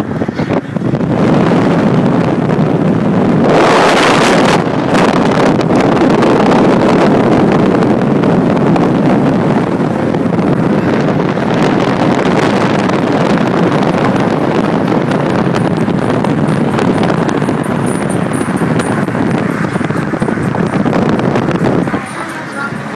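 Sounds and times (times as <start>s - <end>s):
car engine running: 0.0s - 22.9s
wind buffeting microphone: 0.0s - 22.9s.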